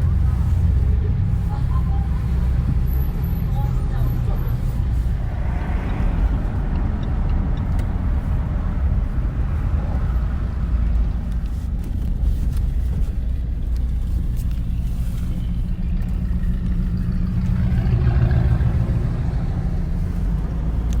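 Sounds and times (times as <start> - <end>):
car engine running steadily: 0.0 - 21.0.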